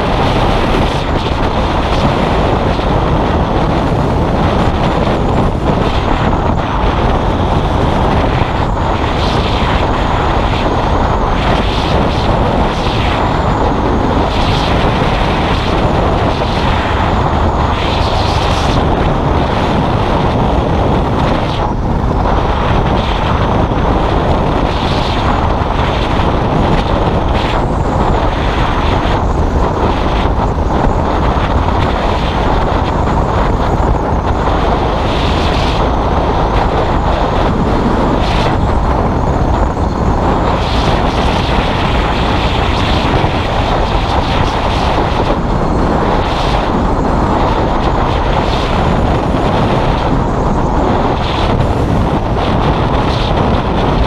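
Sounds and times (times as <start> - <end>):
motorcycle engine running: 0.0 - 54.0
wind on microphone: 0.0 - 54.0.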